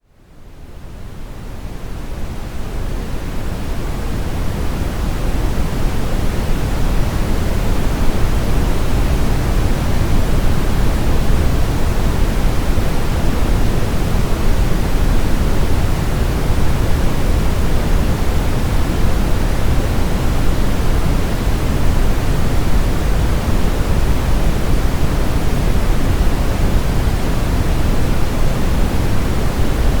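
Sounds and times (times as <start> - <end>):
brown noise hiss: 0.0 - 30.0.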